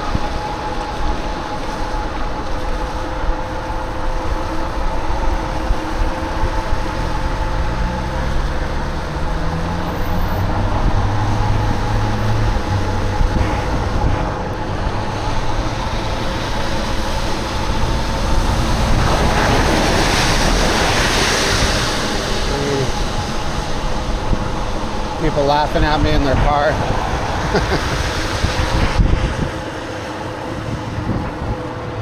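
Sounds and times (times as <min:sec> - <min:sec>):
road traffic: 0:00.0 - 0:32.0
tyres hissing on wet road: 0:00.0 - 0:32.0
wind rumbling on microphone: 0:00.0 - 0:32.0
engine revving: 0:04.0 - 0:32.0.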